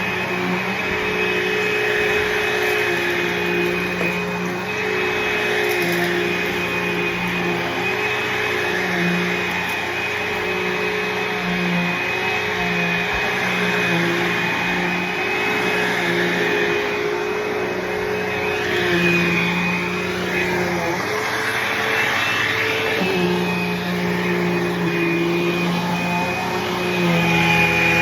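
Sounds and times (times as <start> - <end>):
upright vacuum whine: 0.0 - 28.0.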